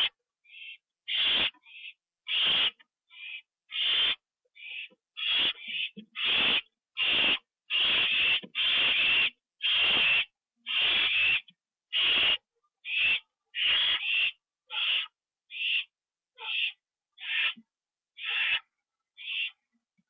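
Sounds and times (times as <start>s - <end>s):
owl hissing screech calls: 0.0s - 17.6s, 18.2s - 19.6s.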